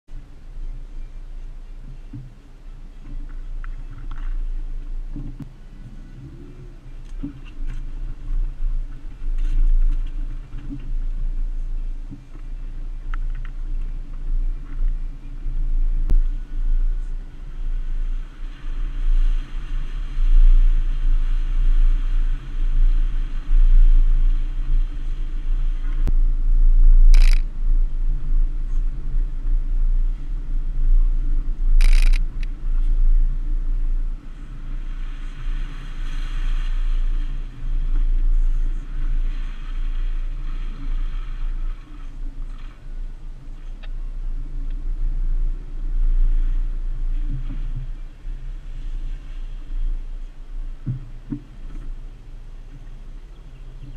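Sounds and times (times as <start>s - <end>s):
deep engine and drivetrain rumble: 0.1s - 53.9s.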